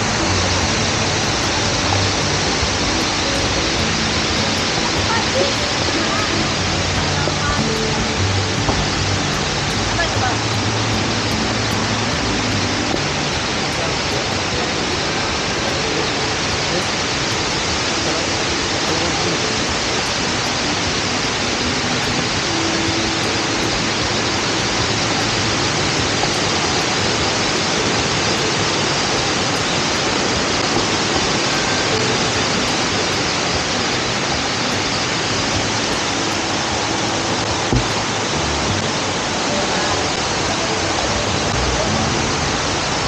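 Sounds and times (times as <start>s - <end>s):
waterfall rushing over rock: 0.0s - 43.0s.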